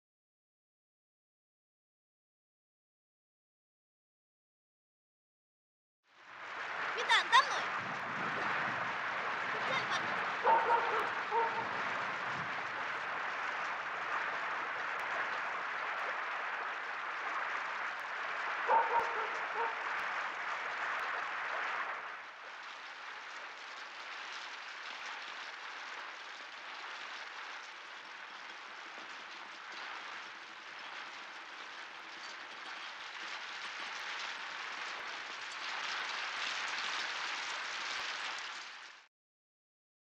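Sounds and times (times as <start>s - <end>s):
rain falling steadily: 6.1s - 39.1s.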